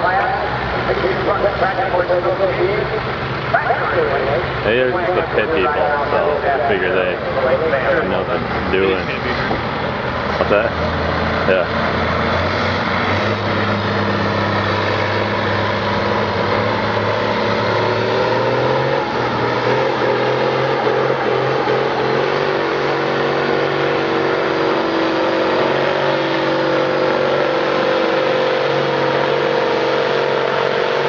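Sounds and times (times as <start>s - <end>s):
tractor engine running hard: 0.0s - 31.0s.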